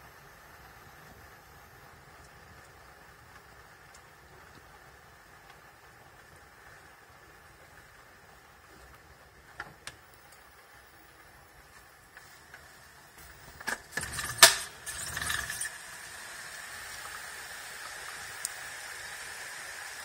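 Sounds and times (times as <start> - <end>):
rain hissing: 0.0 - 20.0
rainwater running in street: 0.0 - 20.0.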